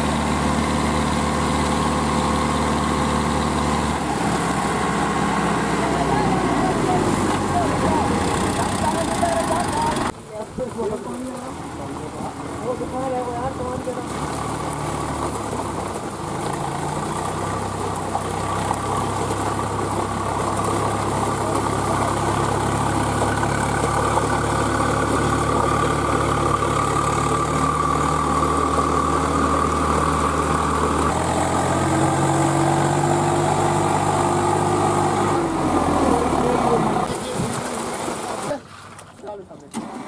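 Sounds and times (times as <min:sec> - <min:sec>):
diesel tractor engine running: 0:00.0 - 0:38.5.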